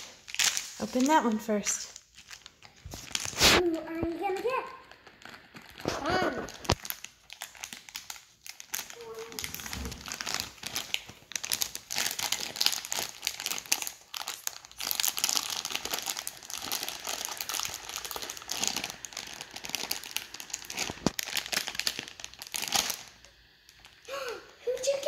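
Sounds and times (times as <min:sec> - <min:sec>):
plastic wrapper crinkling: 0:00.0 - 0:25.0.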